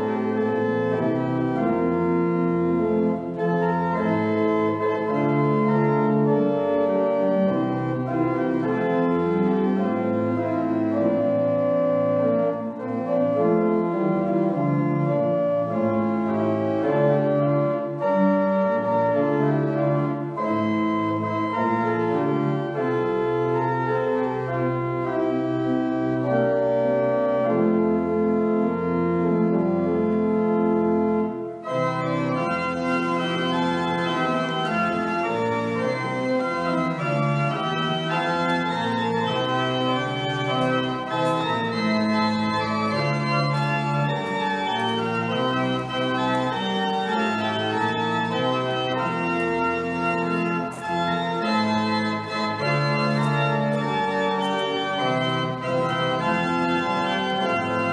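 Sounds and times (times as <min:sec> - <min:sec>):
organ music: 0:00.0 - 0:57.9.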